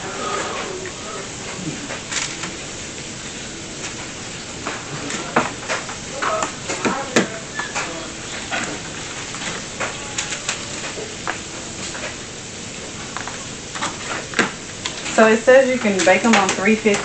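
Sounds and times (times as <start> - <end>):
chicken frying in oil: 0.0 - 17.0.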